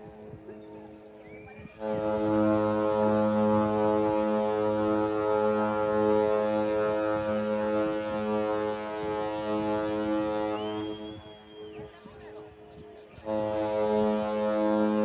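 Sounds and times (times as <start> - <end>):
ship horn deep blast: 1.8 - 11.7, 12.4 - 15.0.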